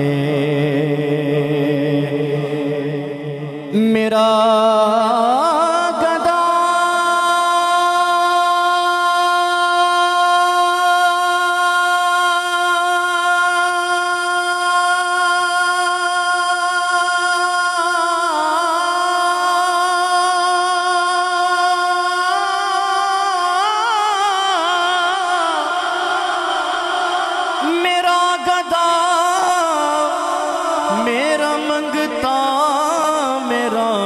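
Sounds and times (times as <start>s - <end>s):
man singing unaccompanied: 0.0s - 34.0s.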